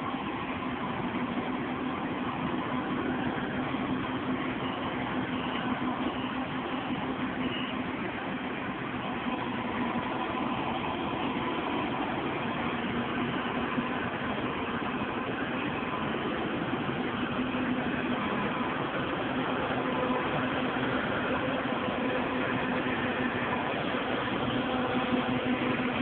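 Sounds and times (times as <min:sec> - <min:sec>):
combine harvester engine droning: 0:00.0 - 0:26.0.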